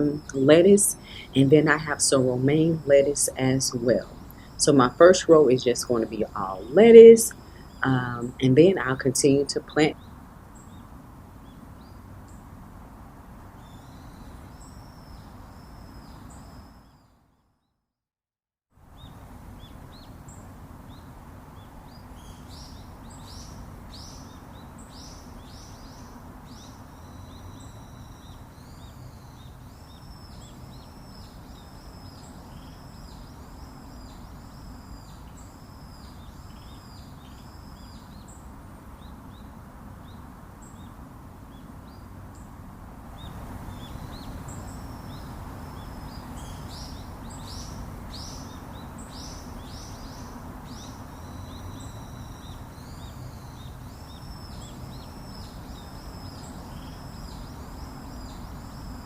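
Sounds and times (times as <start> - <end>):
birds chirping: 0.0 - 12.5, 13.5 - 17.2, 18.9 - 59.0
low rumbling hiss: 0.0 - 17.2, 18.8 - 59.0.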